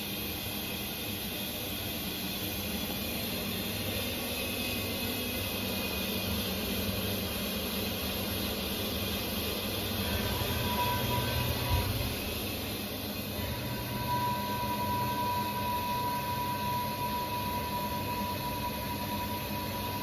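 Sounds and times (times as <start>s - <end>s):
machine humming with hiss: 0.0s - 20.0s.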